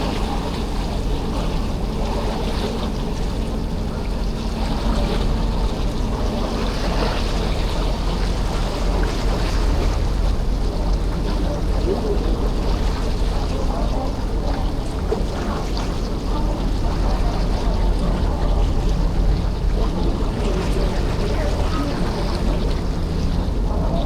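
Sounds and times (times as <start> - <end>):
ferry engine hum: 0.0 - 24.0
sea water washing along hull: 0.0 - 24.0.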